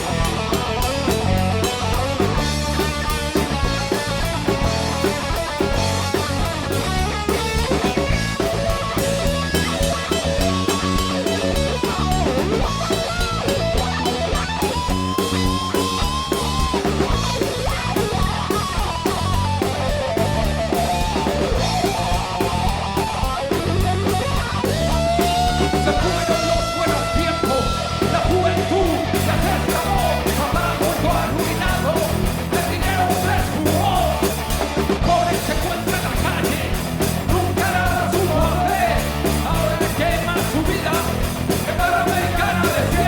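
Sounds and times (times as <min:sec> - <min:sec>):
lead guitar bent notes: 0:00.0 - 0:37.7
rock band playing live: 0:00.0 - 0:43.0.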